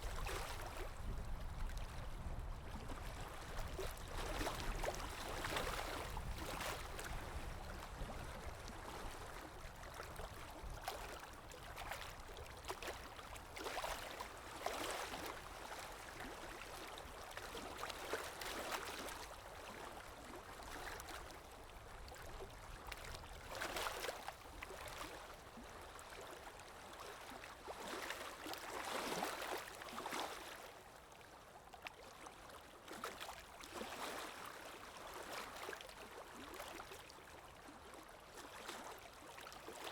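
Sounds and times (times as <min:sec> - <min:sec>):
river water lapping: 0:00.0 - 0:39.9.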